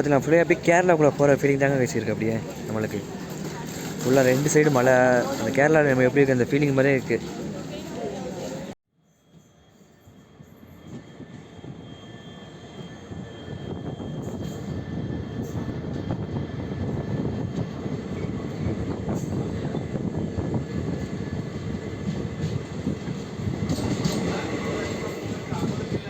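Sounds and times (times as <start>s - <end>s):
train wheels rumbling and rattling: 0.0s - 8.7s, 10.5s - 26.0s.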